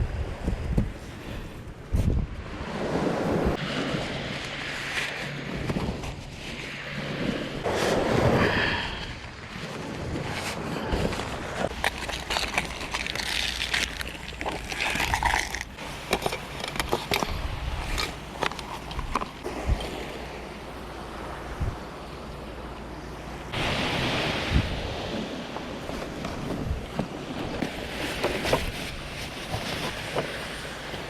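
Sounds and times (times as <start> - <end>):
surf: 0.0 - 31.0
wind: 0.0 - 31.0.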